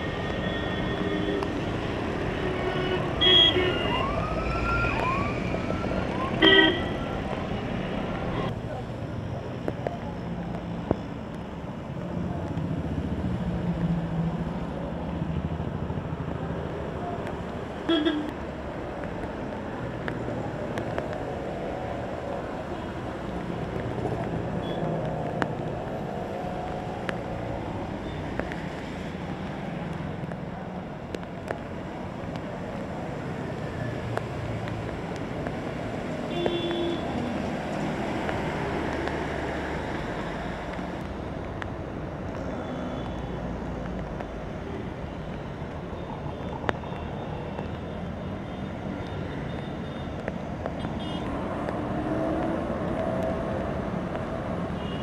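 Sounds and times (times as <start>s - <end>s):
vehicles passing on wet road: 0.0s - 55.0s.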